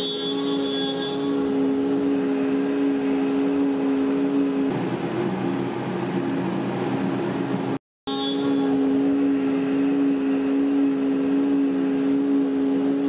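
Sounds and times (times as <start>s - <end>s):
cnc router spindle whine: 0.0s - 13.0s
machine noise: 0.0s - 13.0s.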